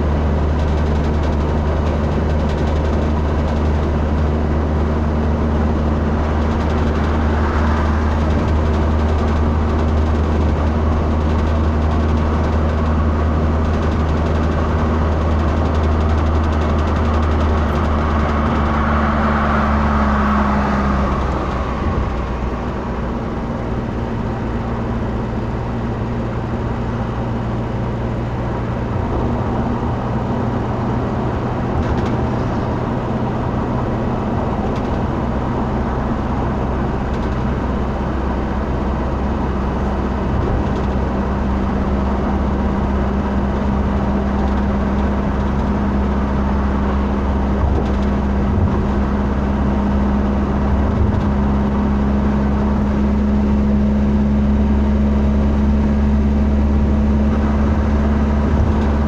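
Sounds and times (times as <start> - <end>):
vehicle engine and road drone: 0.0 - 59.0.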